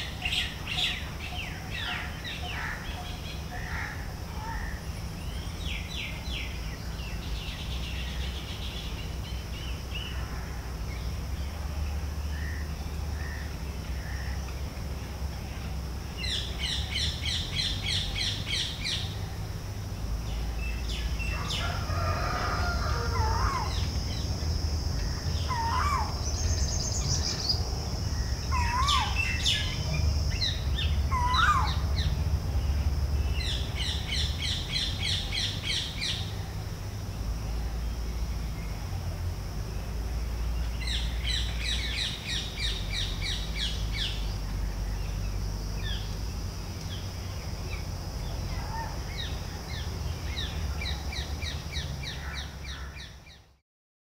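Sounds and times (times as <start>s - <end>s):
birds chirping rapidly: 0.0s - 39.0s, 39.7s - 53.6s
steady high hiss: 0.0s - 53.5s.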